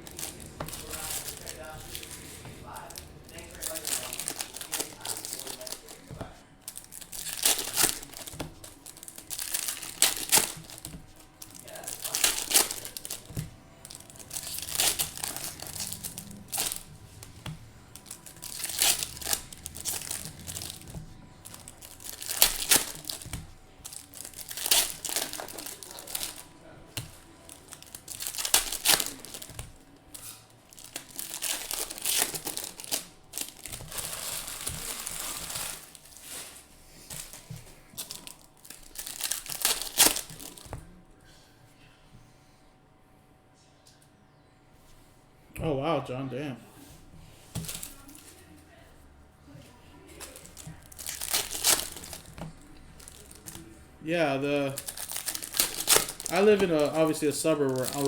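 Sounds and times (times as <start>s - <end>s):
foil wrappers tearing and crinkling: 0.0s - 40.8s, 47.5s - 48.4s, 50.1s - 58.0s.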